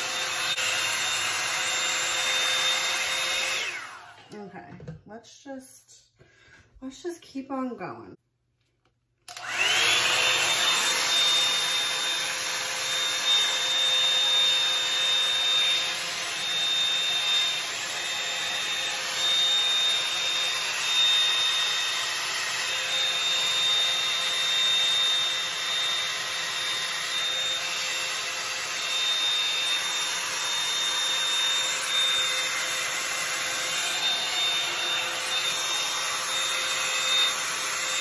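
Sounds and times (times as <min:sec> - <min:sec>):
hot-air brush motor whine: 0:00.0 - 0:04.4, 0:09.3 - 0:38.0.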